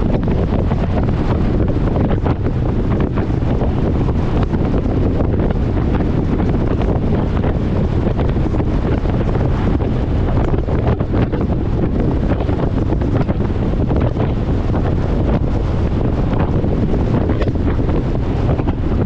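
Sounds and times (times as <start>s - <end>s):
low rumble: 0.0s - 19.0s
wind buffeting microphone: 0.0s - 19.0s.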